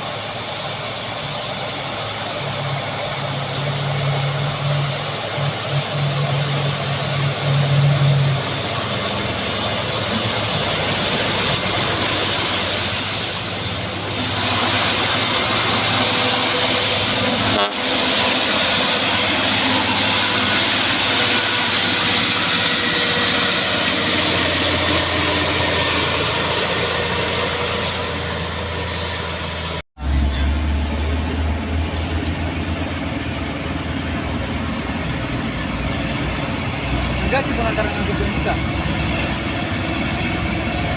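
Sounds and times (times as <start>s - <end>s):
deep engine rumble: 0.0s - 40.9s
road and traffic noise: 0.0s - 40.9s
truck engine running: 0.0s - 40.9s.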